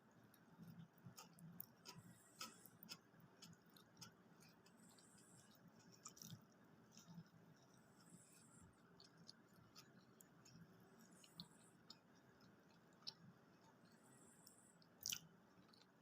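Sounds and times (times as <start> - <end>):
chewing food: 0.0 - 16.0.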